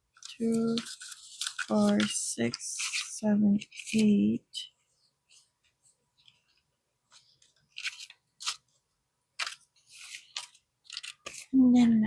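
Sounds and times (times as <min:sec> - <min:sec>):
banknotes rustling: 0:00.0 - 0:04.6, 0:05.3 - 0:12.0.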